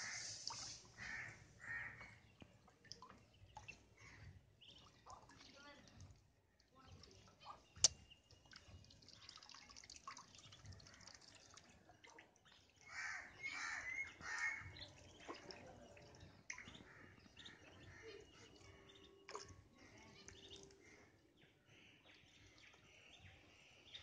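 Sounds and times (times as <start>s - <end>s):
water dripping and splashing: 0.0s - 21.3s.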